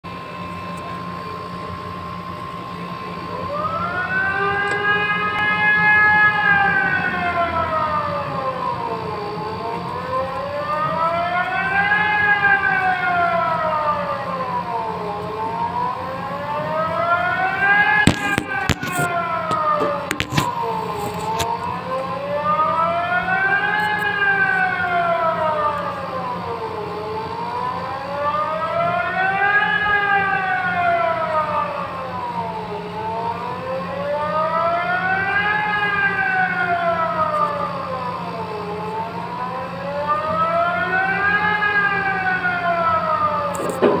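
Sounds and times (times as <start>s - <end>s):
civil defense siren wailing: 0.0s - 44.0s.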